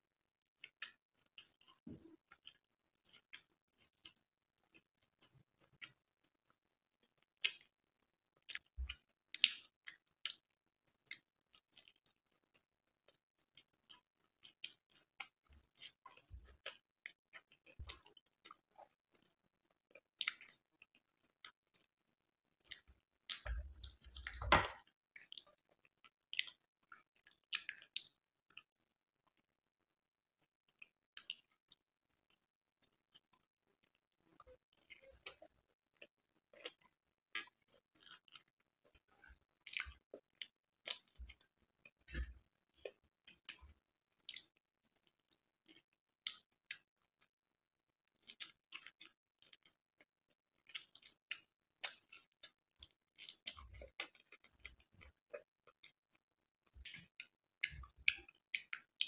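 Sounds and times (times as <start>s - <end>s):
person chewing with wet smacks: 0.5s - 29.5s, 30.4s - 47.1s, 48.0s - 59.0s.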